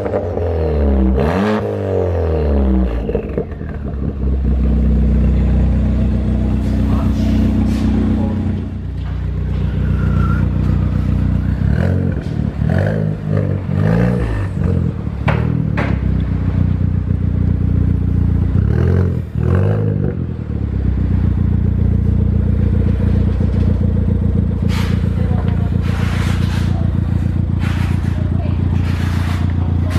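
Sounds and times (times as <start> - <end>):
car engine idling and revving: 0.0 - 29.9
exhaust cracks: 2.6 - 29.9.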